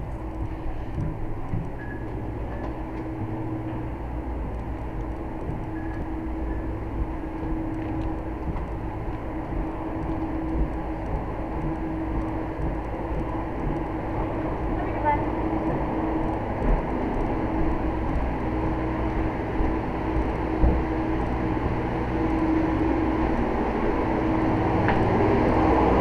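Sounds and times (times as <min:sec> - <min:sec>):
machinery droning rumble: 0:00.0 - 0:26.0.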